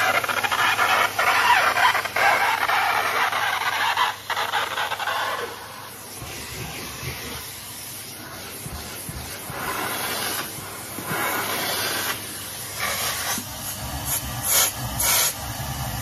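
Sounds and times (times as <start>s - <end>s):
vacuum cleaner sucking: 0.0s - 16.0s.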